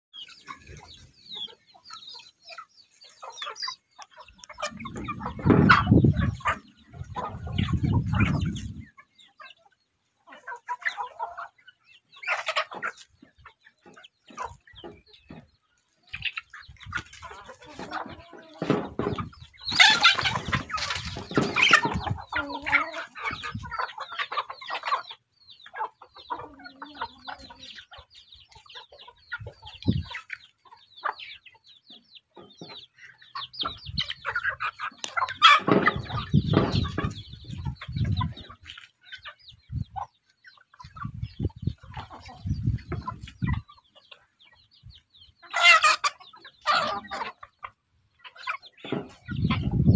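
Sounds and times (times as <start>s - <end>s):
chickens clucking and peeping: 0.0s - 49.9s.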